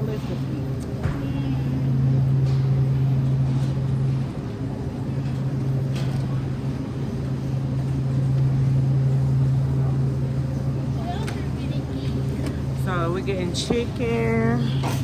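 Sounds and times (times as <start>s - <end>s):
low hum of machinery: 0.0s - 15.0s.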